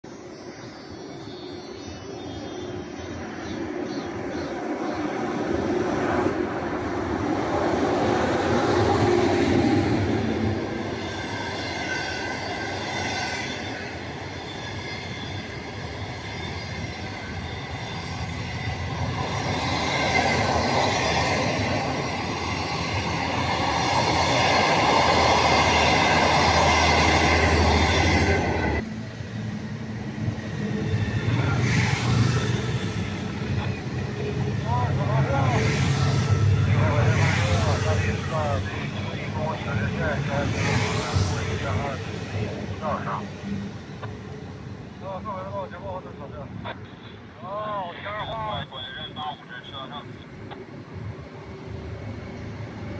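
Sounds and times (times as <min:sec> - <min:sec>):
high-speed train rushing past: 0:00.0 - 0:52.9
train wheels on rails: 0:00.1 - 0:45.6.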